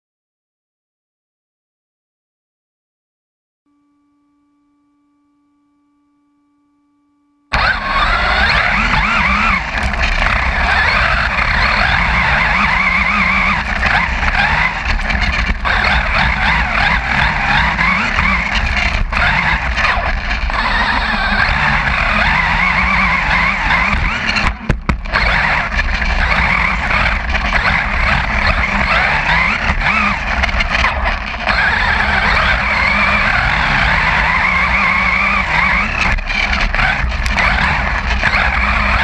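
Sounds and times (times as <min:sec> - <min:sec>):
road noise: 0:07.5 - 0:39.0
truck engine: 0:07.5 - 0:39.0.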